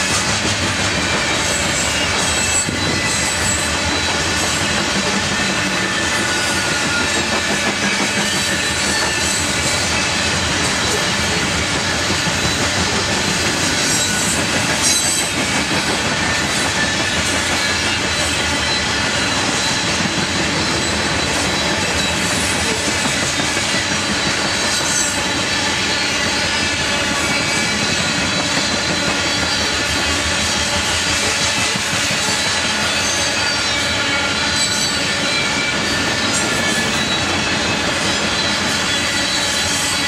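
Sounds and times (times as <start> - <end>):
high wheel squeal: 0.0 - 40.0
train wheels rumbling on rails: 0.0 - 40.0.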